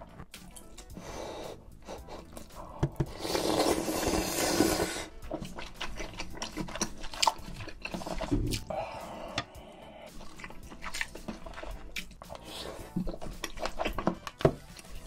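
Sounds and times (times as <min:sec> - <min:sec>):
slurping noodle soup: 0:00.9 - 0:15.0.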